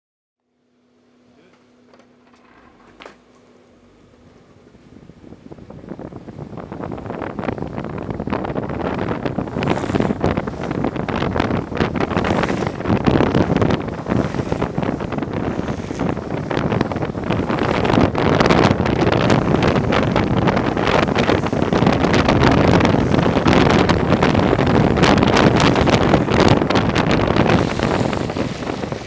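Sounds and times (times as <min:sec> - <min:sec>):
longboard wheels rumbling on asphalt: 0:02.2 - 0:29.0
wind buffeting microphone: 0:03.8 - 0:29.0.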